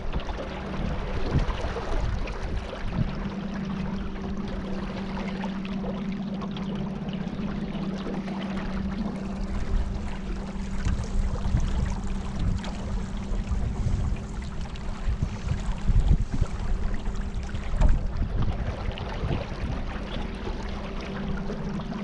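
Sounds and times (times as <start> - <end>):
boat motor running: 0.0 - 22.0
water splashing past hull: 0.0 - 22.0.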